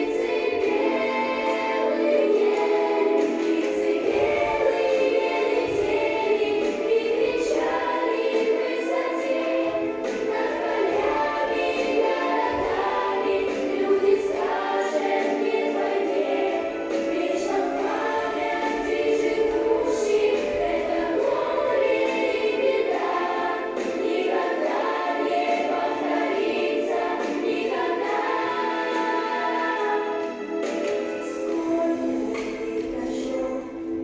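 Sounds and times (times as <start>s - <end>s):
choir of high voices singing: 0.0s - 34.0s.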